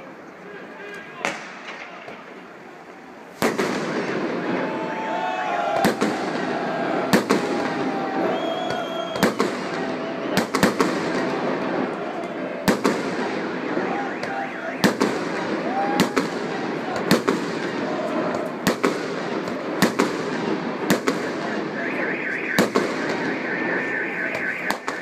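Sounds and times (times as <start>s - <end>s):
background noise: 0.0s - 25.0s
voices: 0.0s - 25.0s
fireworks bangs: 1.2s - 25.0s.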